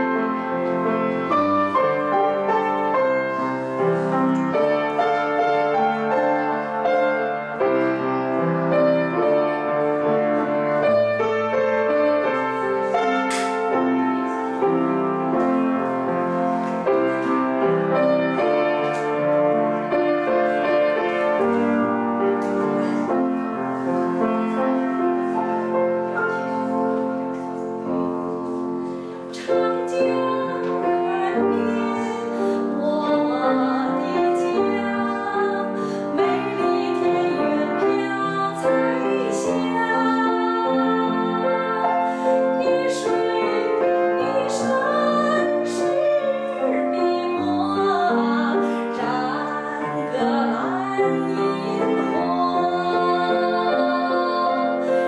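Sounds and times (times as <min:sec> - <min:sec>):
piano playing chords and melody: 0:00.0 - 0:55.0.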